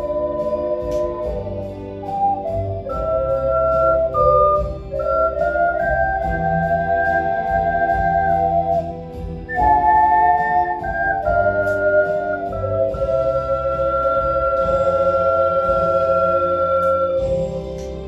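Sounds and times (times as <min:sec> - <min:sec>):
musical accompaniment: 0:00.0 - 0:18.0
ocarina ensemble melody: 0:00.0 - 0:18.0.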